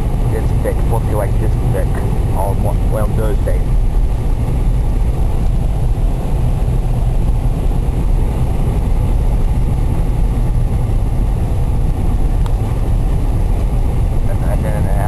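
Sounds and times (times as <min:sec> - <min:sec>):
car cabin engine and road noise: 0:00.0 - 0:15.0.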